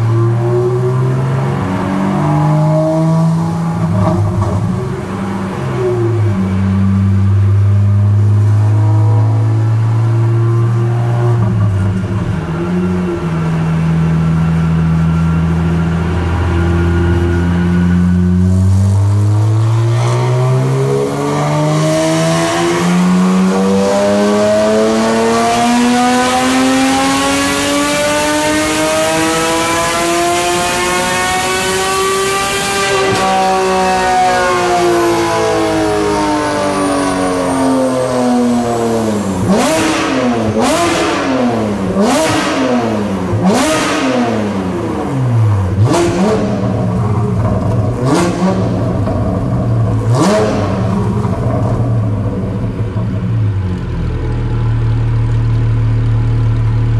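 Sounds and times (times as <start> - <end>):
sports car engine revving on dyno: 0.0 - 55.4.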